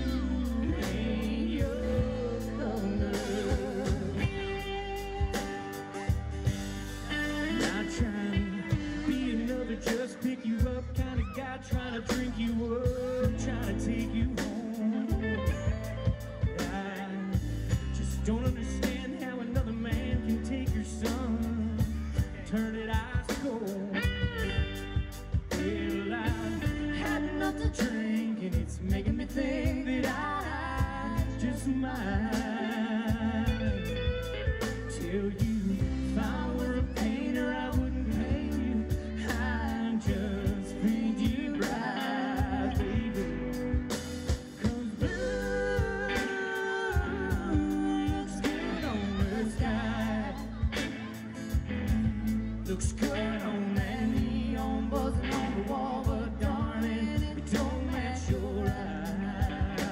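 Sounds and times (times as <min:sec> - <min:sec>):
live band playing: 0:00.0 - 0:59.9
woman singing: 0:00.0 - 0:59.9.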